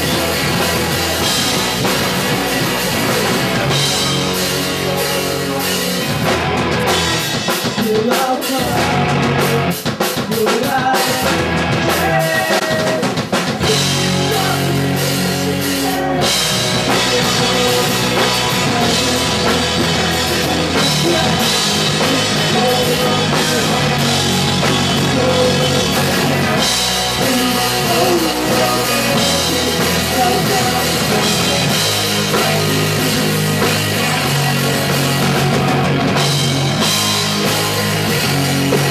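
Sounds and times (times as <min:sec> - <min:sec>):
punk rock band playing live: 0:00.0 - 0:38.9.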